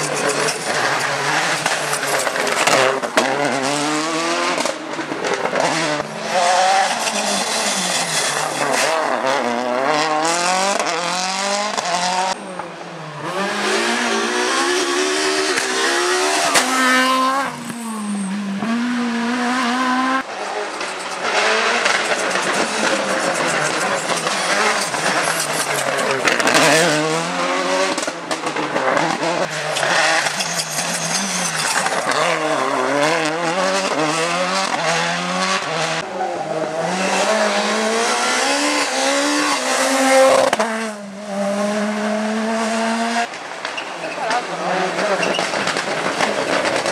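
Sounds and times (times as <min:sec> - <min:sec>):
rally car engines revving: 0:00.0 - 0:46.9.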